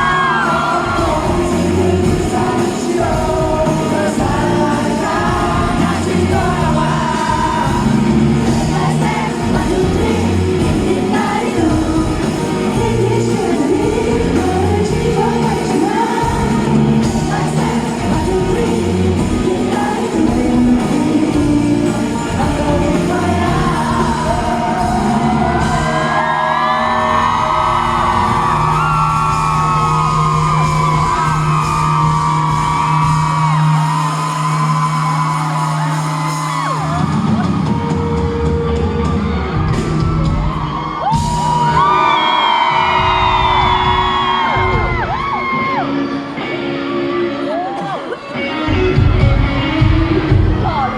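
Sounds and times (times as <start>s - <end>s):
person singing: 0.0s - 39.1s, 41.1s - 50.9s
drums: 0.0s - 50.9s
live pop-rock band playing: 0.0s - 50.9s.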